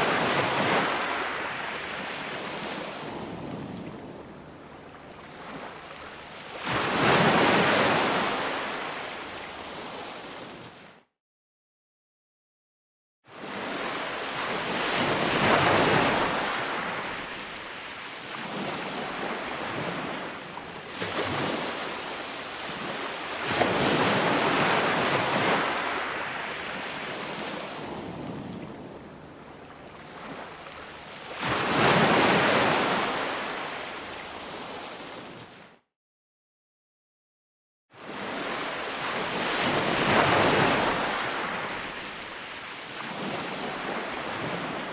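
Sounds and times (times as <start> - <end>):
ocean waves crashing on shore: 0.0 - 10.8, 13.3 - 35.6, 38.0 - 44.9.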